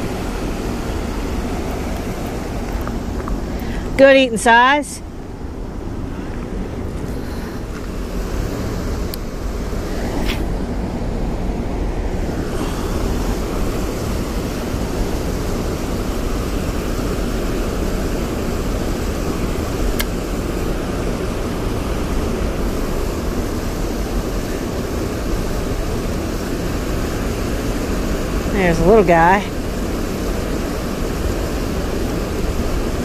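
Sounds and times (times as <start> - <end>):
water rushing from spillway: 0.0 - 33.0.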